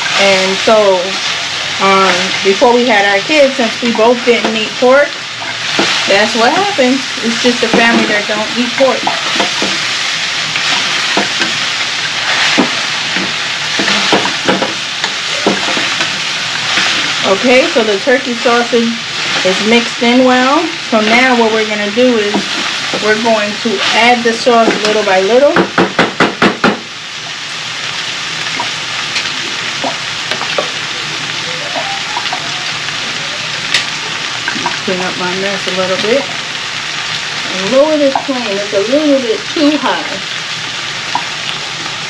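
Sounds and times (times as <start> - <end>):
sausage sizzling in frying pan: 0.0 - 42.0.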